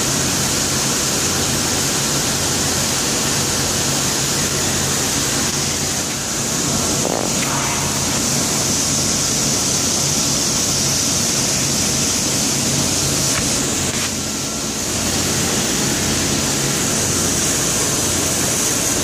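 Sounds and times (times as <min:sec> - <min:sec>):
low machinery hum: 0:00.0 - 0:19.0
high hiss: 0:02.5 - 0:19.0.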